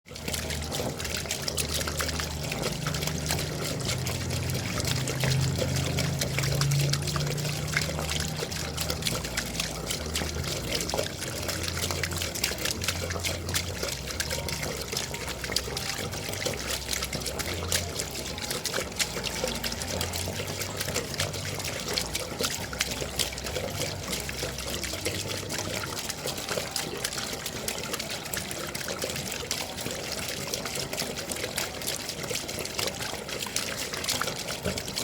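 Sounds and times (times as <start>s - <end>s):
water dripping and trickling: 0.0s - 35.0s.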